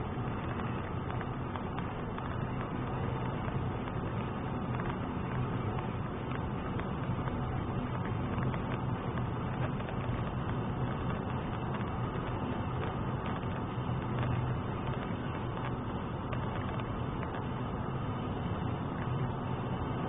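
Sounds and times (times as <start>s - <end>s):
car engine hum: 0.0s - 20.0s
tyre and road noise: 0.0s - 20.0s.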